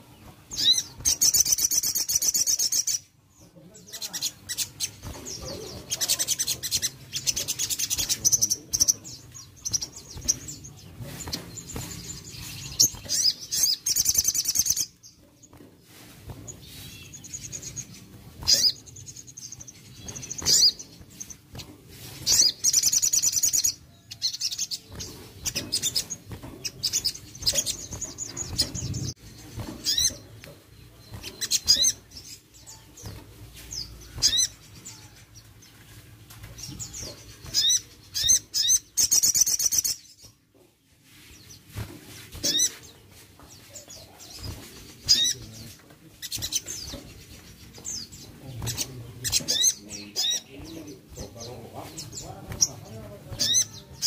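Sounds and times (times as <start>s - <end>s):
sunbird chirping and trilling: 0.0s - 54.0s.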